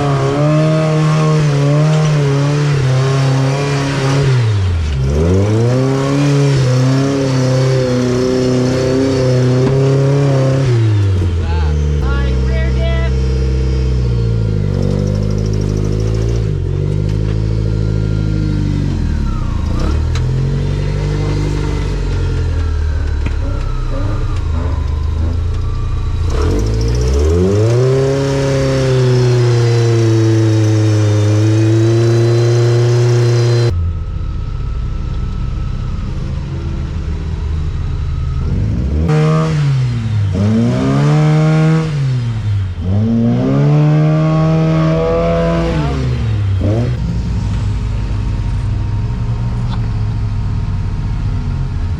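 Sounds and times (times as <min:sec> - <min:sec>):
off-road engines revving: 0:00.0 - 0:34.4, 0:35.2 - 0:51.9.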